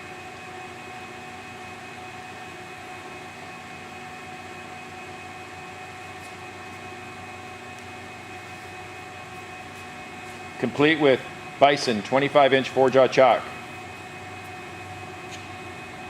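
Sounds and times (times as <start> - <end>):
machine hum with whining tones: 0.0 - 16.0.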